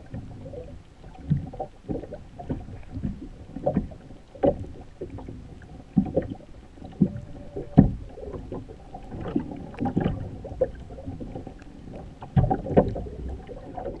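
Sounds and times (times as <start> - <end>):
low thumps of seawater: 0.0 - 14.0
muffled underwater sloshing: 0.0 - 14.0.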